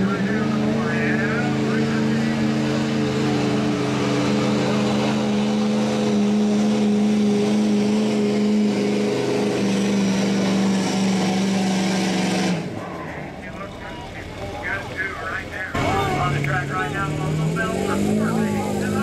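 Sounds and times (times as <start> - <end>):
diesel truck engine under load: 0.0 - 19.0.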